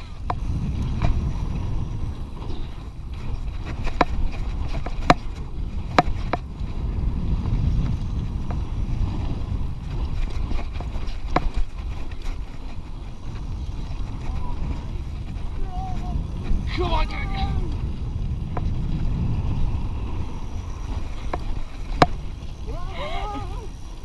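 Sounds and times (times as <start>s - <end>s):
bike knocks and rattles: 0.0s - 16.7s, 17.6s - 19.4s, 20.9s - 22.6s
wind buffeting microphone: 0.0s - 24.0s.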